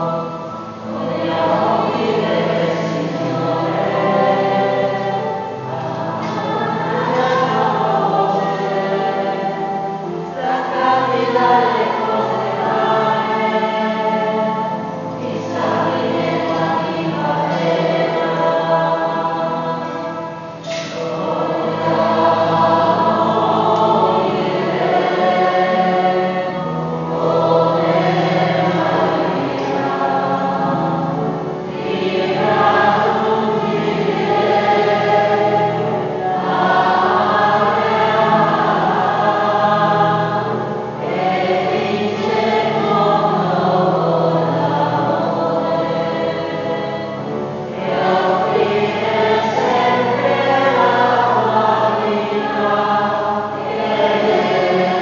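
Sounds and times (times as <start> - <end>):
choir singing a hymn: 0.0 - 55.0
organ chords: 0.0 - 55.0.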